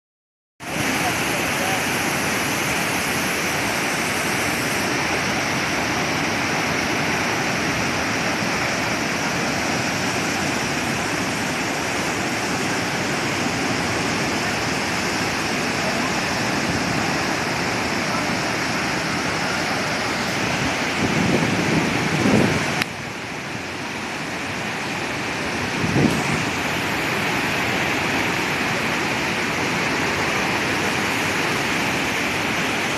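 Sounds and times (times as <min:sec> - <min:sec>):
waterfall rushing: 0:00.6 - 0:32.9.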